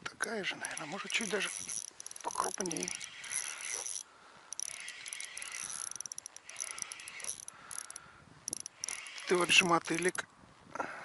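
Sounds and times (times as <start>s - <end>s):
fishing reel whirring clicks: 0.2s - 10.2s.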